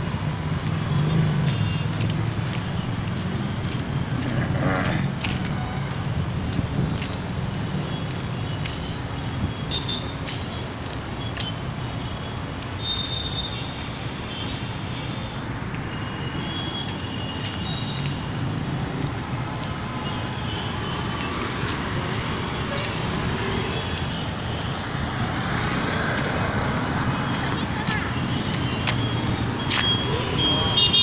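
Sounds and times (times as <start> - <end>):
traffic engines rumbling: 0.0 - 31.0.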